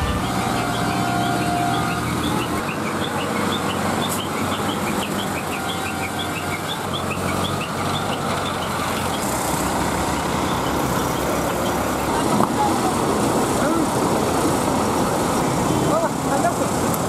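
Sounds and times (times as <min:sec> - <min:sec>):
crane diesel engines running: 0:00.0 - 0:17.0.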